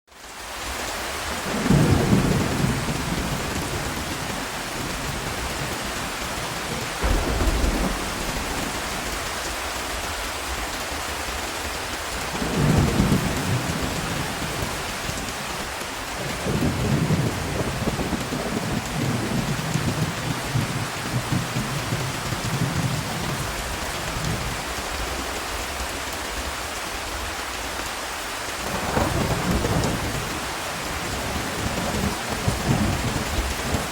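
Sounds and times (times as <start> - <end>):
heavy rain: 0.1 - 33.9
thunder rumbling: 1.4 - 15.6, 16.2 - 24.5, 28.6 - 33.9.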